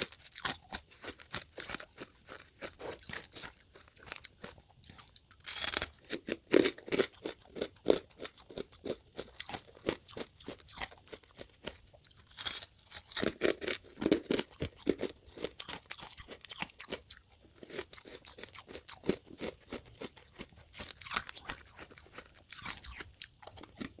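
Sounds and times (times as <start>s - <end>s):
crunching and chewing frost: 0.0s - 24.0s.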